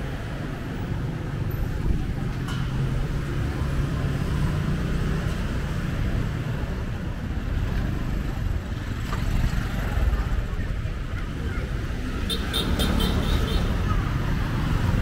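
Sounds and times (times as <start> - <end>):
motorbike and car engines: 0.0 - 15.0
street traffic rumble: 0.0 - 15.0.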